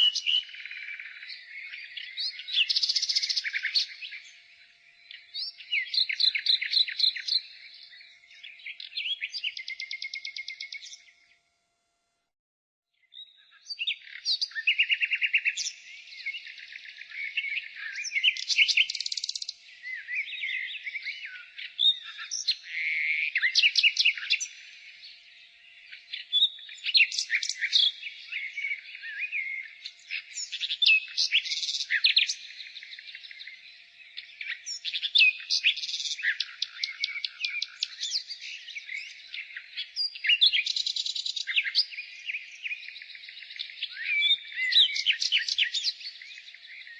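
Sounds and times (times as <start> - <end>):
nightingale singing: 0.0 - 11.4, 13.0 - 46.9.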